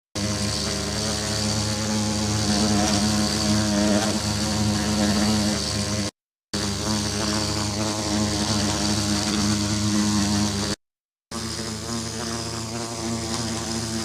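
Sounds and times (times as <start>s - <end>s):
low buzzing drone: 0.2s - 14.0s.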